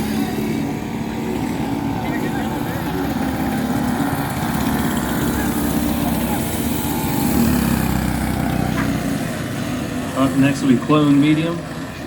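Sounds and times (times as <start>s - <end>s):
small kart engines droning: 0.0s - 12.0s.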